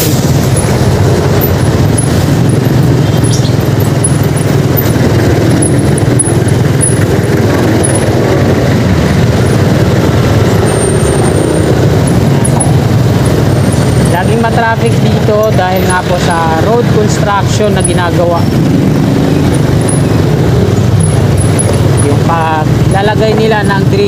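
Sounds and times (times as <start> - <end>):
motorcycle engine rumbling: 0.0 - 24.0
road and traffic noise: 0.0 - 24.0.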